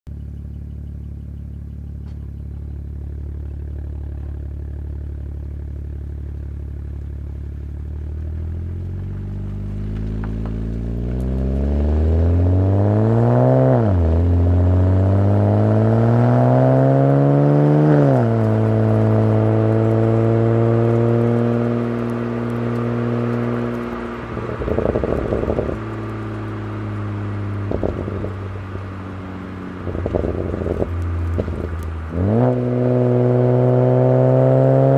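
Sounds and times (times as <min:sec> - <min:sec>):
car engine revving: 0:00.2 - 0:34.9.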